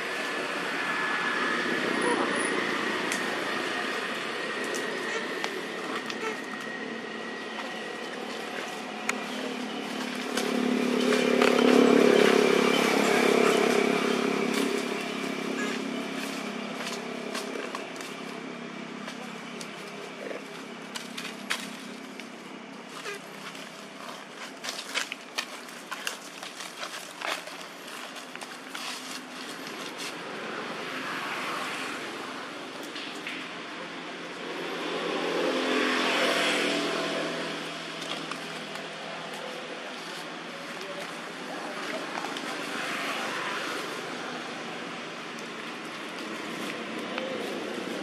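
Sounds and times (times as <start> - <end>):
road vehicle passing: 0.0 - 48.0.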